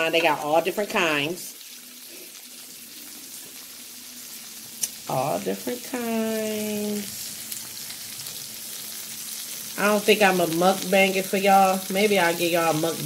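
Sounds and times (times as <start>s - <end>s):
seafood sizzling in a pot: 0.0s - 13.0s.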